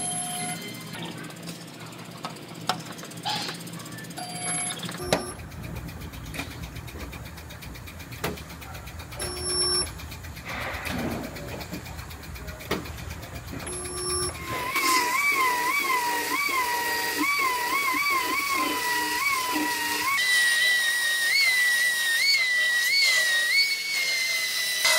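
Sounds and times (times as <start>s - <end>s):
belt sander whining: 4.2s - 24.9s
spot welder buzzing: 4.2s - 24.9s.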